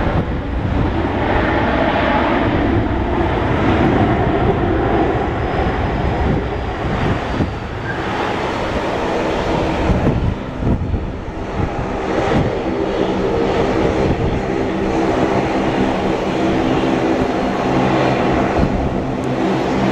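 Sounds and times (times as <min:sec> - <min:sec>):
jet engines rumbling: 0:00.0 - 0:19.9
wind buffeting microphone: 0:00.0 - 0:19.9.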